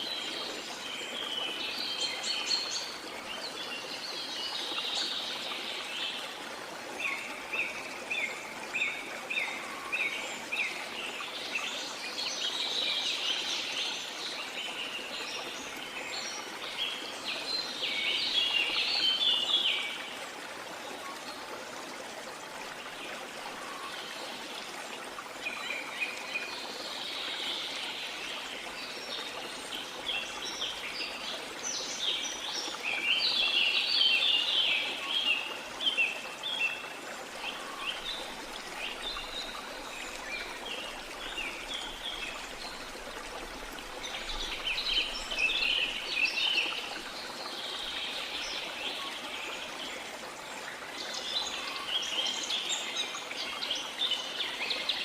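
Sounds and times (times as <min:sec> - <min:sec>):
running water rushing: 0:00.0 - 0:55.0
songbirds chirping and twittering: 0:00.0 - 0:55.0.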